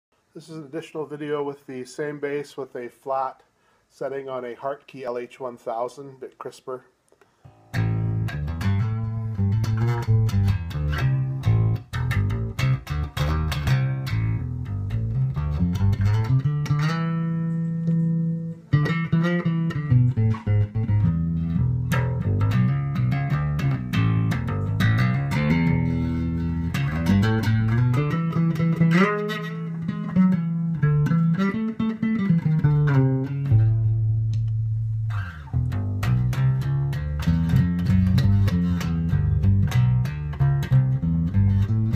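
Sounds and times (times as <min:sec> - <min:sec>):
electric bass line plucked: 0:07.5 - 0:41.9.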